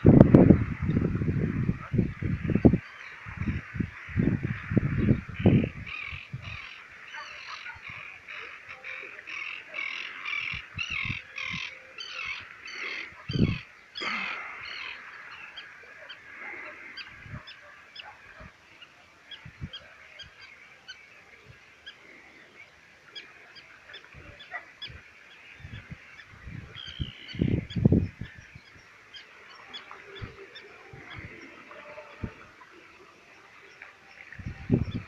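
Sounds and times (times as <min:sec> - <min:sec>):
birds chirping: 0:00.0 - 0:35.0
birds honking: 0:00.4 - 0:35.0.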